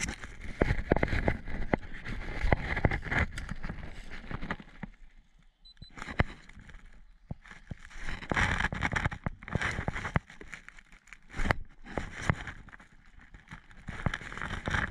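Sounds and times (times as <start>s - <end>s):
rustling against vegetation and gear: 0.0s - 14.9s.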